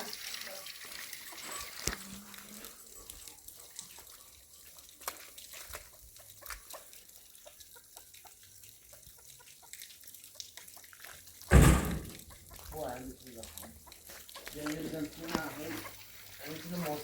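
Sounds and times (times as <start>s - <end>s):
chickens clucking: 0.1s - 17.0s.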